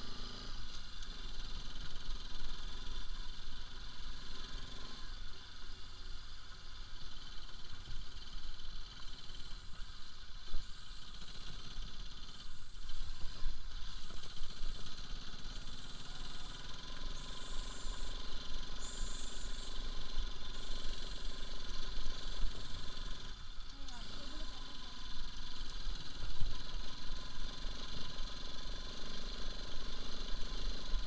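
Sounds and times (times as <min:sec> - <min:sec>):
motorcycle engine running: 0:00.0 - 0:31.0
tyres on gravel track: 0:00.0 - 0:31.0.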